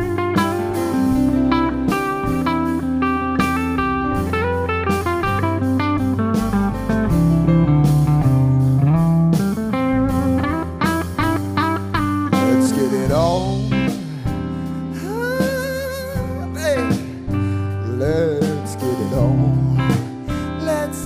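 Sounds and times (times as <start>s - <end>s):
bass: 0.0s - 21.0s
electric guitar: 0.0s - 21.0s
drum and cymbal hits: 0.1s - 21.0s.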